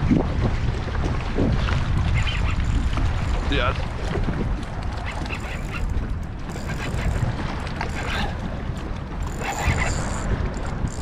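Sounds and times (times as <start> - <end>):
water sloshing around kayak: 0.0 - 11.0
wind rumbling on microphone: 0.0 - 11.0.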